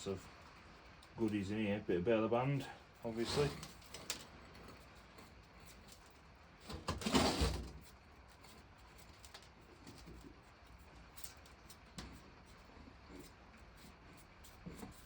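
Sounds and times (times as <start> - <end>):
debris scraping and rustling: 3.0 - 15.0.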